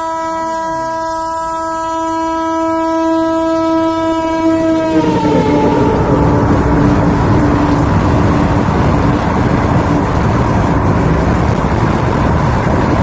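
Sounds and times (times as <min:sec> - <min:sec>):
train horn blast: 0:00.0 - 0:13.0
train passing at high speed: 0:00.4 - 0:13.0.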